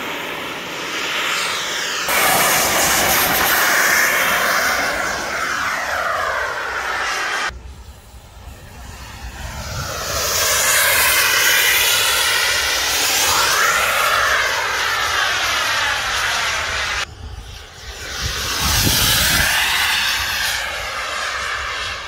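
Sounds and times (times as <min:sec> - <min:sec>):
model aircraft engine whine: 0:00.0 - 0:22.0.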